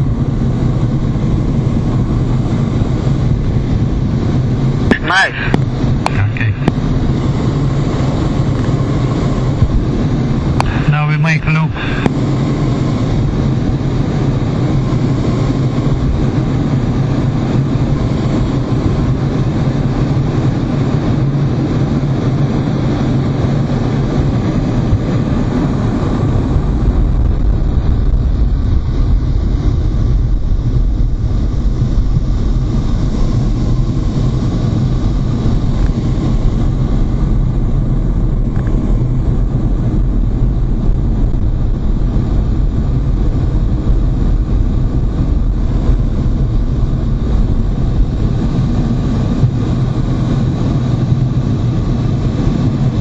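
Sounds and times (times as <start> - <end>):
jet engine cockpit rumble: 0.0 - 53.0.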